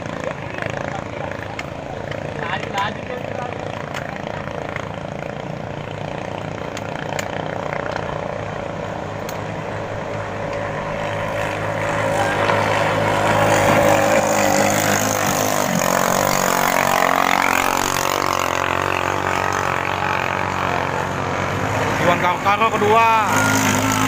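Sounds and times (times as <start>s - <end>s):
boat engines running hard: 0.0s - 24.0s.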